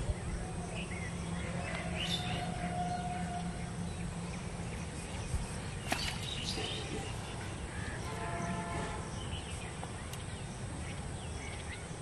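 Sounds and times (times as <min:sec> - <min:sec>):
birds chirping and calling: 0:00.0 - 0:12.0
low background hum: 0:00.0 - 0:12.0.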